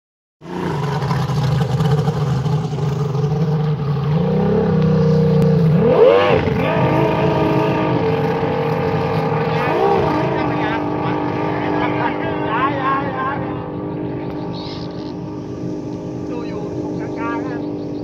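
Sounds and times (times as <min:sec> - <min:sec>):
powerboat engine revving: 0:00.4 - 0:18.0.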